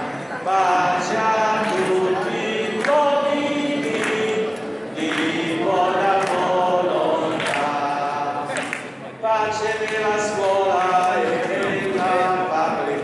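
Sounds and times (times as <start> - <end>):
group singing together: 0.0 - 13.0.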